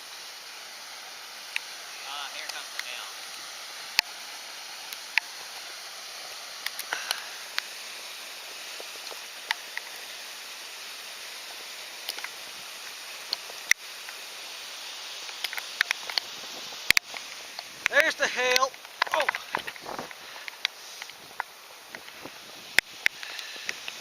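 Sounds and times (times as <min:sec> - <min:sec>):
rain hiss: 0:00.0 - 0:24.0
running water: 0:00.0 - 0:24.0
hailstones ticking: 0:00.9 - 0:24.0.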